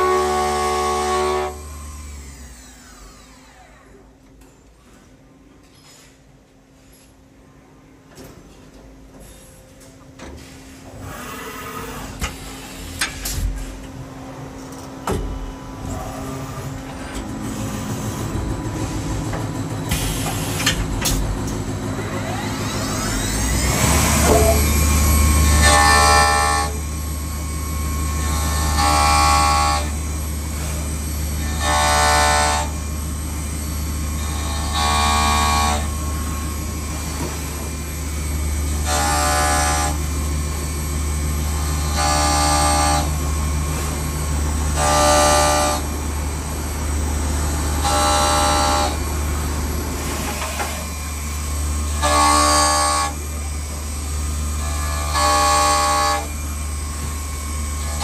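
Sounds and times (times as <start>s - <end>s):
milling machine hum: 0.0s - 4.1s, 10.8s - 58.0s.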